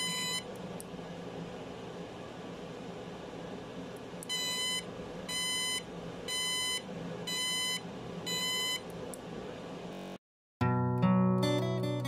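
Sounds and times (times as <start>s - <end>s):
faint steady hum: 0.0s - 10.2s.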